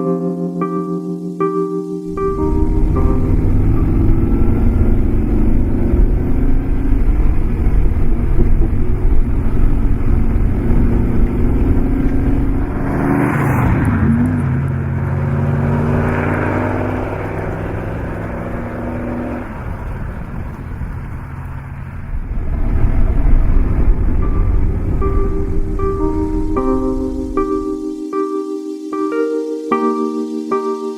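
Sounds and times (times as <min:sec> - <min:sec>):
car engine running under load: 0:02.1 - 0:27.8.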